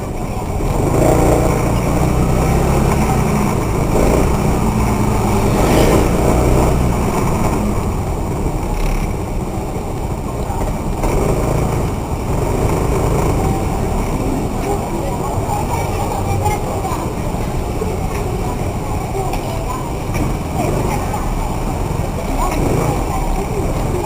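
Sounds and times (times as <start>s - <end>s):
city traffic: 0.0s - 24.0s.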